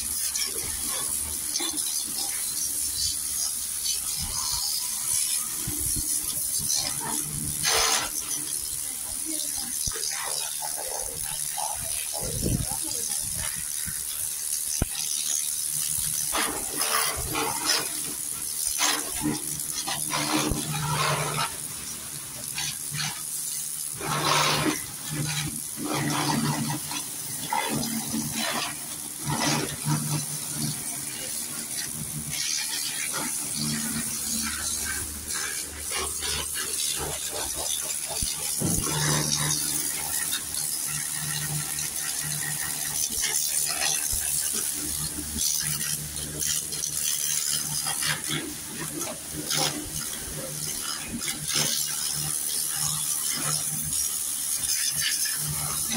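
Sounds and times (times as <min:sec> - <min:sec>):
water spraying: 0:00.0 - 0:55.9.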